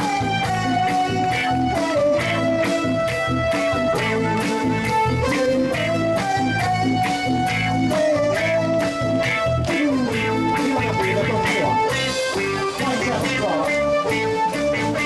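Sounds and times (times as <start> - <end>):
live band playing cha-cha: 0.0 - 15.0.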